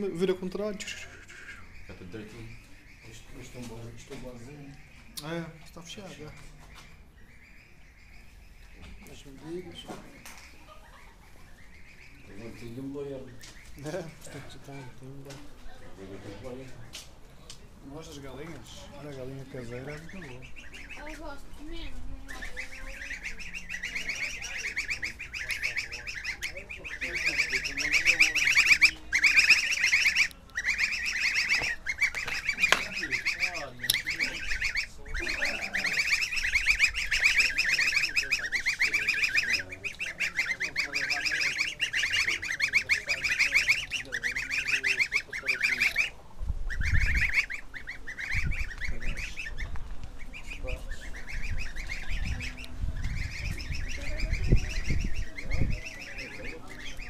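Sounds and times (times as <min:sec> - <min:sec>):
geese honking: 0:00.0 - 0:15.0, 0:17.8 - 0:57.0.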